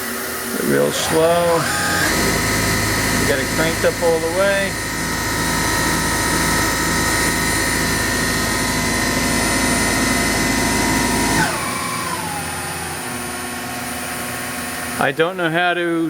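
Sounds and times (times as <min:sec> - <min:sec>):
lathe spindle whining: 0:00.0 - 0:15.3.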